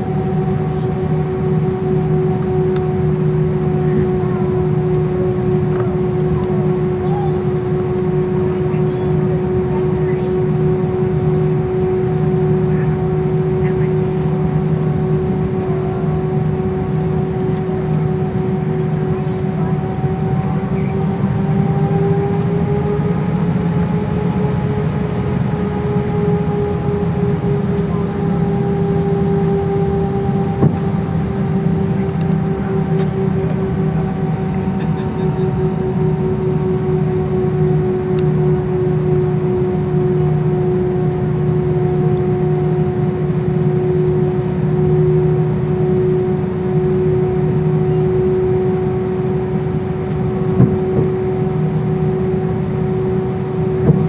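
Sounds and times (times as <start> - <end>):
jet engines idling: 0.0 - 54.0.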